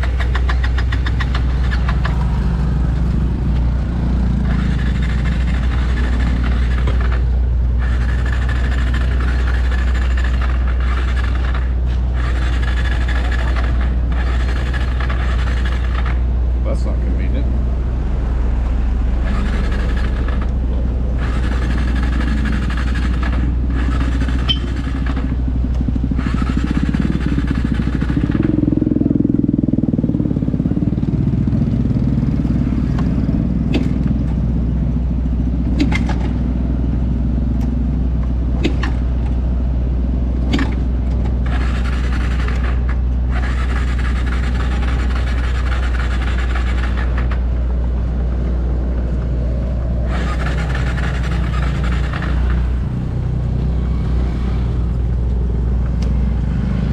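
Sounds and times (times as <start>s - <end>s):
small motorbike engine running: 0.0s - 16.2s, 19.1s - 36.5s, 40.4s - 47.6s, 49.2s - 56.9s.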